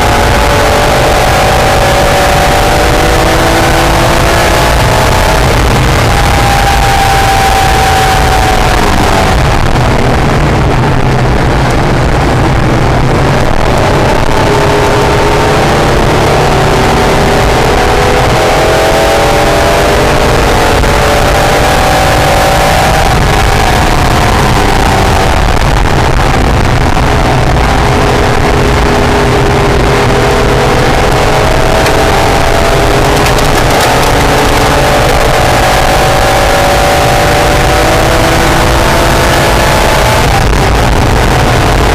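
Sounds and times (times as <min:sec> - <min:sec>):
car engine at speed: 0:00.0 - 0:41.9
road noise: 0:00.0 - 0:41.9
wind noise: 0:00.0 - 0:41.9.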